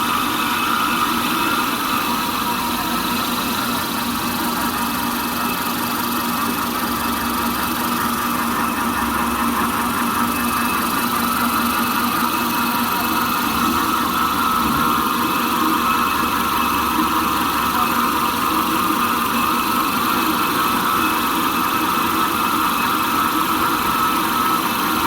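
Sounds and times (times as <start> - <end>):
machine humming and whining: 0.0 - 25.0.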